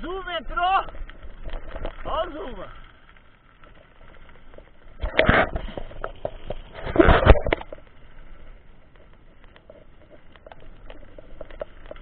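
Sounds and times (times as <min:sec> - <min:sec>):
bike tyres crackling on gravel: 0:00.0 - 0:12.0.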